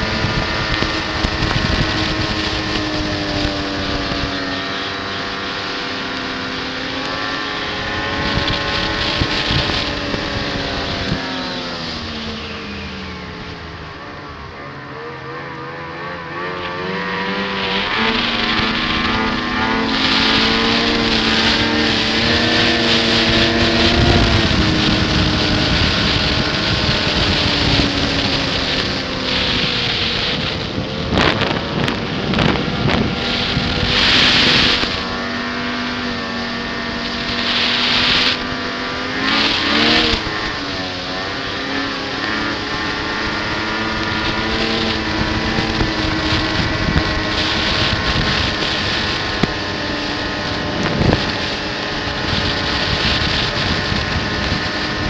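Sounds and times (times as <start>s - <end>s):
rushing noise: 0.0s - 55.0s
snowmobile engine running: 0.0s - 55.0s.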